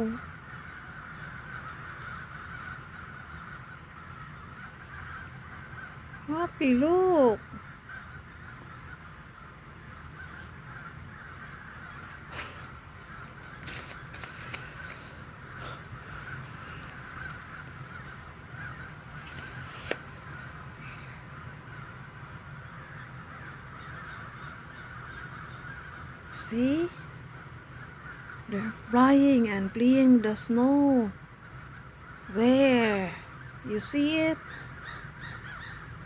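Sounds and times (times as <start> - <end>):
flock of birds chattering: 0.0 - 36.0.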